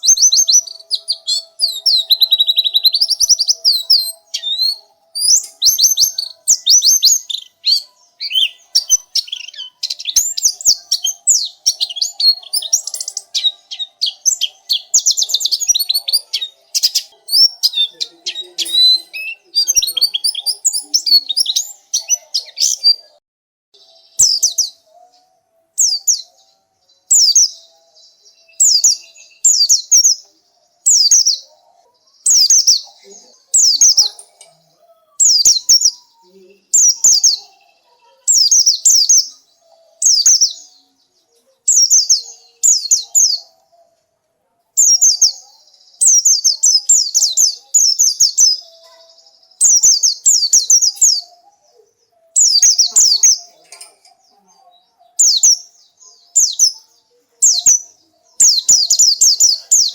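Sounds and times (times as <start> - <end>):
bird singing high chirps: 0.0 - 23.2, 23.8 - 44.1, 44.8 - 59.9.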